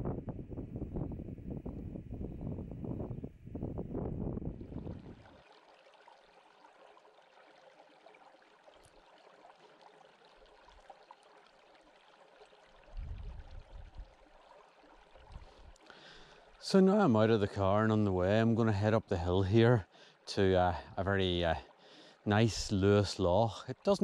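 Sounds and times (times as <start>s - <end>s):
stream flowing over stones: 4.6s - 24.0s.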